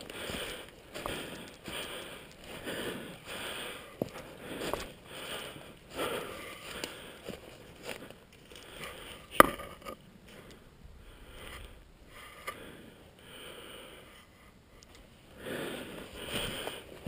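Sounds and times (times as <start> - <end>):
person breathing: 0.0 - 9.4, 10.3 - 17.0.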